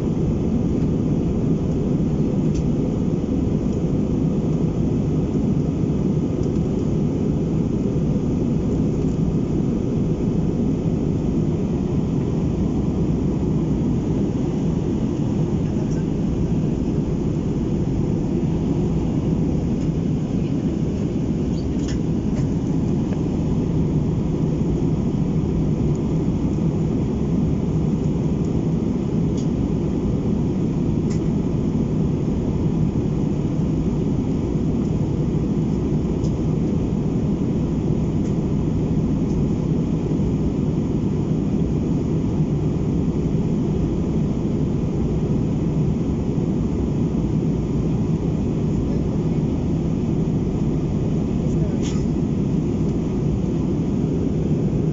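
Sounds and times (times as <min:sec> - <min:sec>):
airliner cabin roar: 0:00.0 - 0:54.9.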